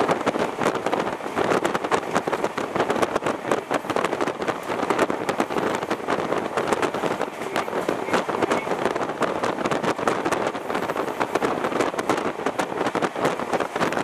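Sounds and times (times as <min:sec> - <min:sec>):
train rattling and clicking: 0:00.0 - 0:14.0
train rushing noise: 0:00.0 - 0:14.0.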